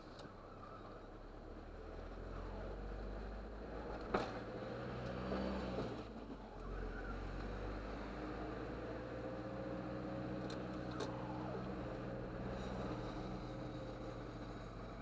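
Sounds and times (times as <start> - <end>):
lorry engine and road noise: 0.0 - 15.0.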